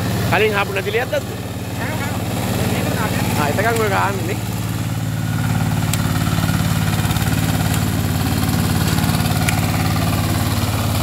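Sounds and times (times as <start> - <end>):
tractor engine chugging: 0.0 - 11.0.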